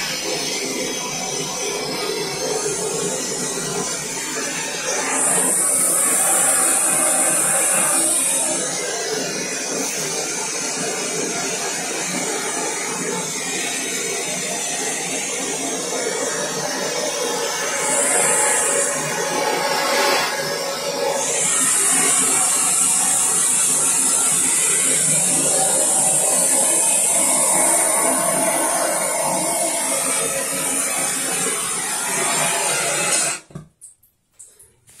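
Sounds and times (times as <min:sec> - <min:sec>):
gas torch flame hissing: 0:00.0 - 0:33.5.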